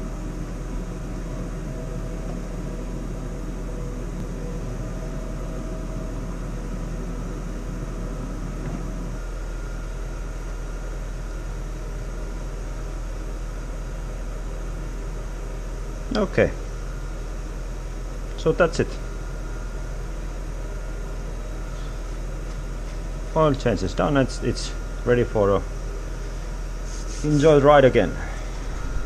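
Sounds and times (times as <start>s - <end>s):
workshop hum and hiss: 0.0s - 29.0s.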